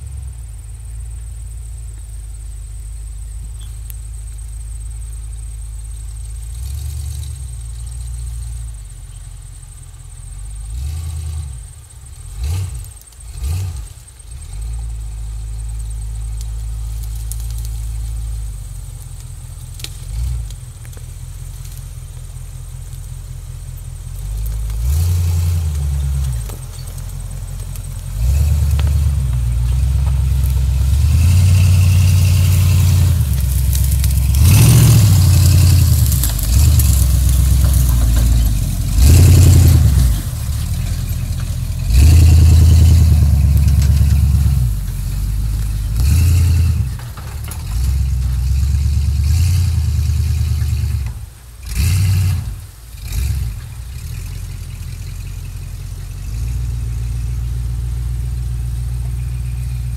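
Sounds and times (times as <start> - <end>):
buggy engine revving: 0.0 - 59.9
driving through grass and brush: 0.0 - 59.9.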